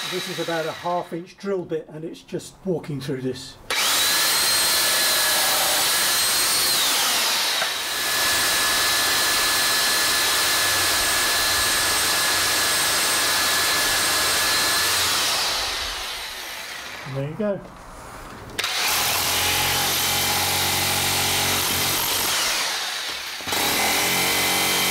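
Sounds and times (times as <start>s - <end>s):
drill bit cutting into wood: 0.0s - 1.1s, 3.7s - 17.0s, 18.6s - 24.9s
drill motor whine: 0.0s - 1.1s, 3.7s - 17.0s, 18.6s - 24.9s.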